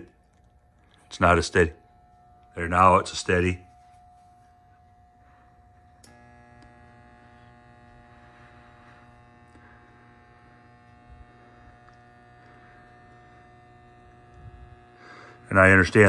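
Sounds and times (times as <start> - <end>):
battery charger transformer hum: 0.0 - 16.0.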